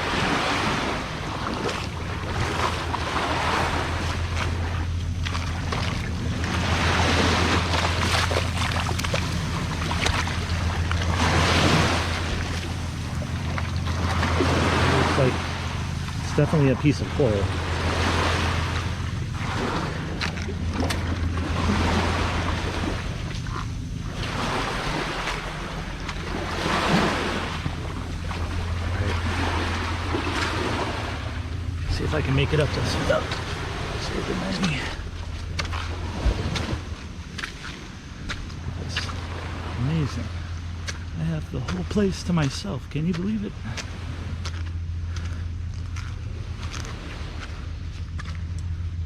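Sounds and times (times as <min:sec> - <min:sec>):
waves washing onto shore: 0:00.0 - 0:48.7
wind rumble on microphone: 0:00.0 - 0:49.0.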